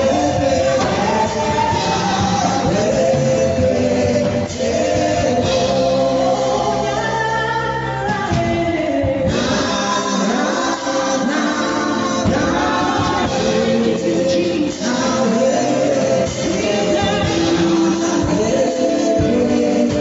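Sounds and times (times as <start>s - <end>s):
gospel choir singing: 0.0s - 20.0s
instrumental backing: 0.0s - 20.0s.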